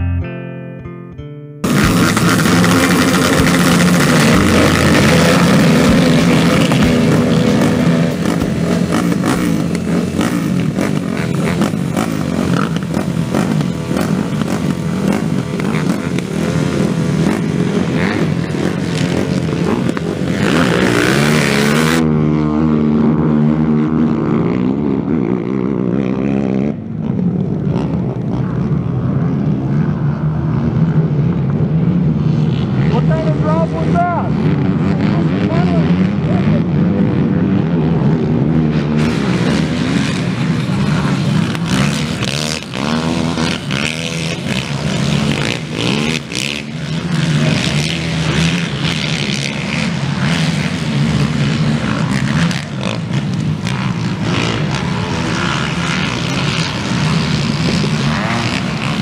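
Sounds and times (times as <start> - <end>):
atv engines revving: 1.6 - 59.0.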